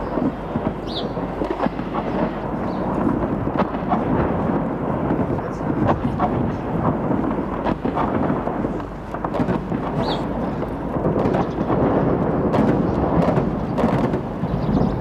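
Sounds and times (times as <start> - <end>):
gunfire cracks: 0.0 - 14.8
low rumble of explosions: 0.0 - 15.0.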